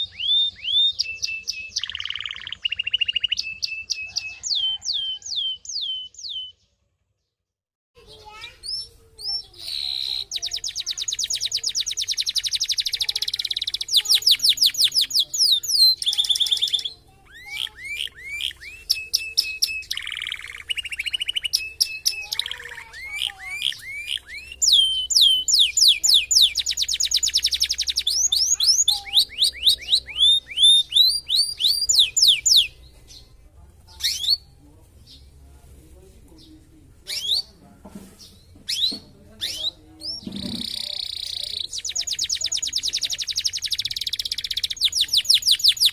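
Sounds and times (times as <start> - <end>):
canary singing trills and whistles: 0.0 - 6.7, 8.1 - 33.2, 34.0 - 35.2, 37.1 - 37.6, 38.7 - 45.9.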